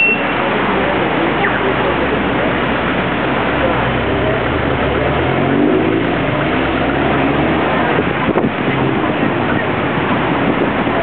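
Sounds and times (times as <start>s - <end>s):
engine hum: 0.0s - 11.0s
traffic rushing noise: 0.0s - 11.0s.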